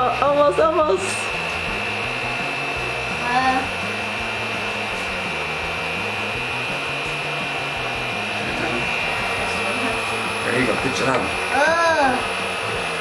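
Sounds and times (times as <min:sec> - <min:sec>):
toy air blower whirring: 0:00.0 - 0:13.0.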